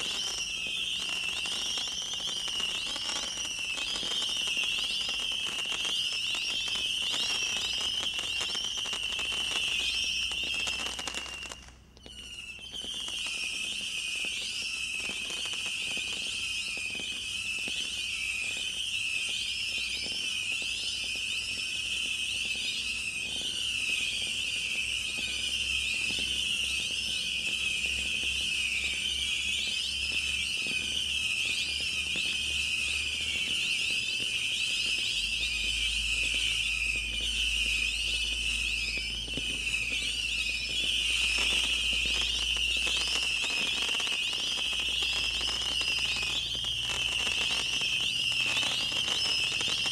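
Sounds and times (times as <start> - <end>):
firework crackles and bangs: 0.0 - 49.9
shrill firework whistles: 0.0 - 49.9.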